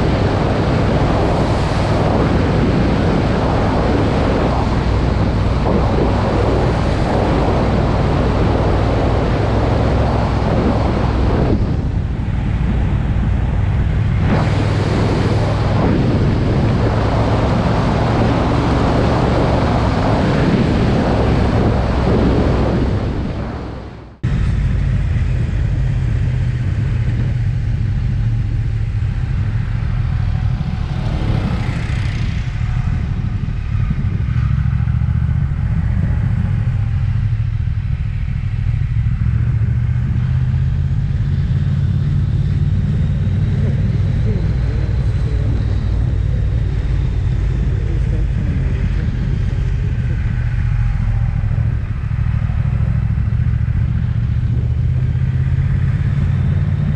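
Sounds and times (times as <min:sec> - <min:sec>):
motorcycle engine running steadily: 0:00.0 - 0:56.9
wind and road noise: 0:00.0 - 0:56.9.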